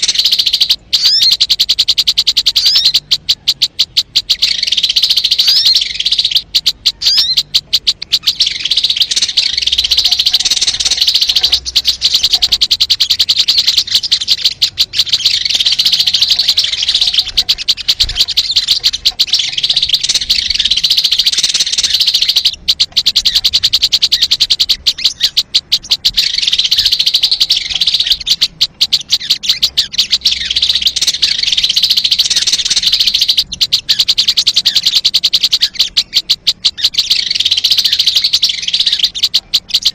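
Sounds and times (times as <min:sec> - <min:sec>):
bird chattering trill: 0:00.0 - 0:39.9.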